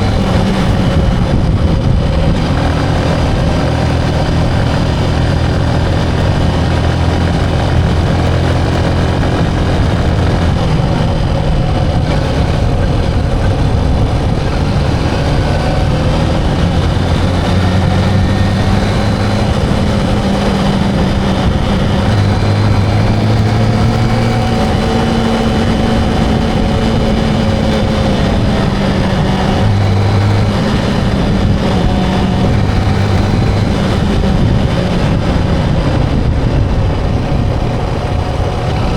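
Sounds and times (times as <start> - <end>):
motorcycle engine revving: 0.0 - 38.9
road and wind noise: 0.0 - 38.9.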